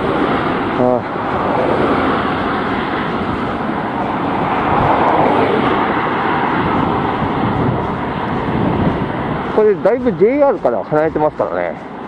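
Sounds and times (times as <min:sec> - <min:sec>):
cars passing: 0:00.0 - 0:12.0
wind blowing on microphone: 0:00.0 - 0:12.0.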